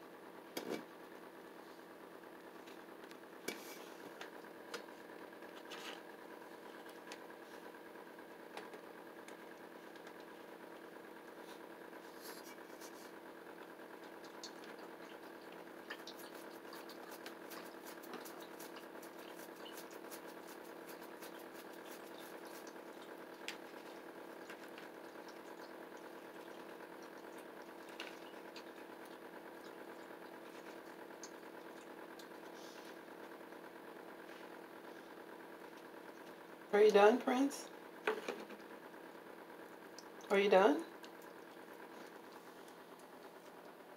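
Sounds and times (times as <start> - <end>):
mechanical hum: 0.0 - 43.9.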